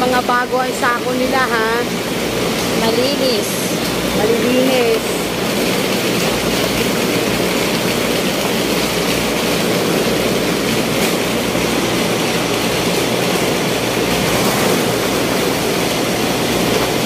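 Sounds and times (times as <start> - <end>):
ice-making machinery running: 0.0 - 17.0.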